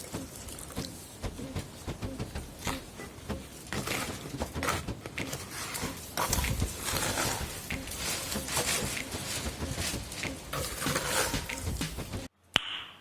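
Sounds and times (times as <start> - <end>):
cement being stirred by hand: 0.0 - 12.3
tool knocking container sides: 0.0 - 12.3.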